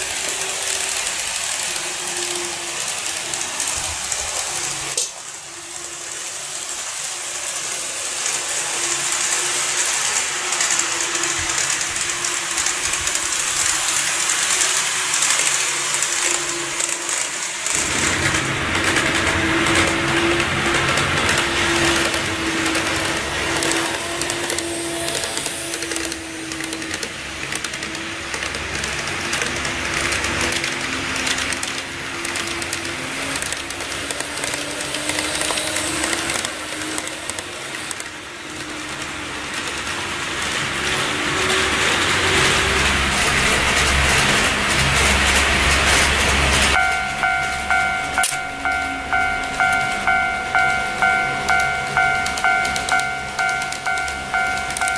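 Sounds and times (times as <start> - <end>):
model train motors whirring: 0.0 - 54.9.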